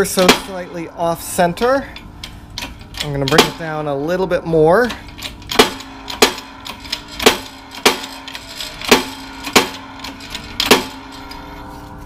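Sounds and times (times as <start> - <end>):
bearing press clacks: 0.0 - 11.7
steady hum: 0.0 - 12.0.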